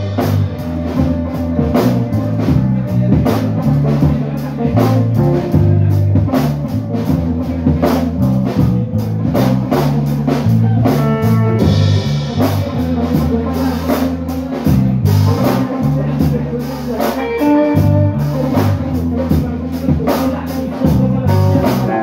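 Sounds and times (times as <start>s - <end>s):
electric guitar riff: 0.0s - 22.0s.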